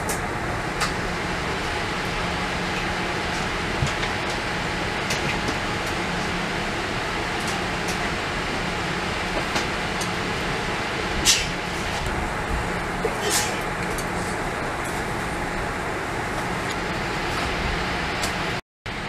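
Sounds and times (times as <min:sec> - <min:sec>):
ventilation air hiss: 0:00.0 - 0:19.0.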